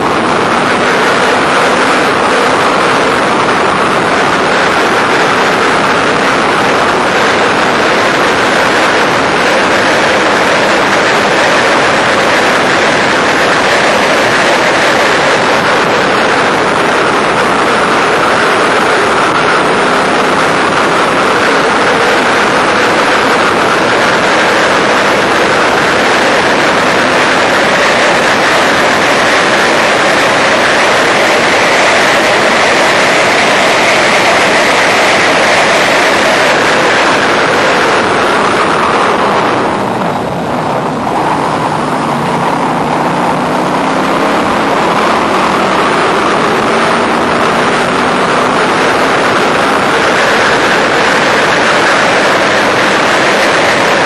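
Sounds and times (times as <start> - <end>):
loud wind rush: 0.0 - 54.0
race car engine running hard: 0.0 - 54.0.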